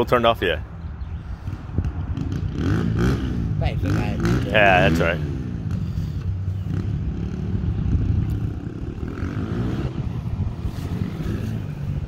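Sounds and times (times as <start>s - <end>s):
dirt bike engine revving: 1.9s - 12.0s.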